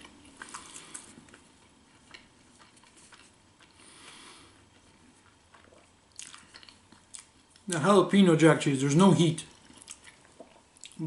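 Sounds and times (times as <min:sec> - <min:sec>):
faint chewing with mouth clicks: 0:00.0 - 0:07.8, 0:09.4 - 0:11.0.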